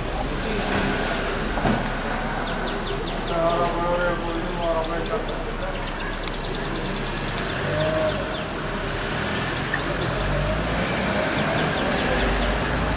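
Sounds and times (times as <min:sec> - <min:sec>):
small birds chirping: 0:00.0 - 0:12.9
vehicle running: 0:00.0 - 0:12.9.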